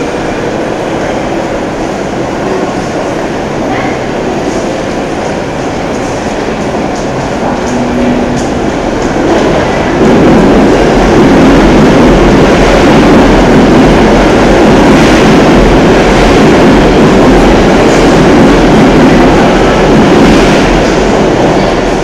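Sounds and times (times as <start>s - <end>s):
crowd noise: 0.0s - 22.0s.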